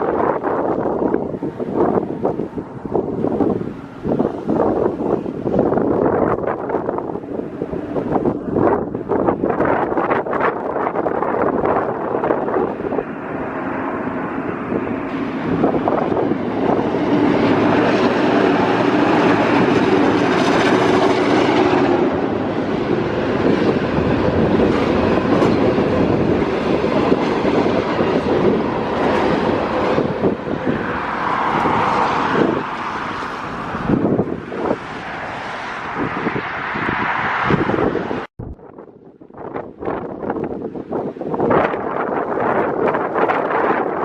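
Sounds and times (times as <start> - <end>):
train passing close by: 0.0 - 44.0.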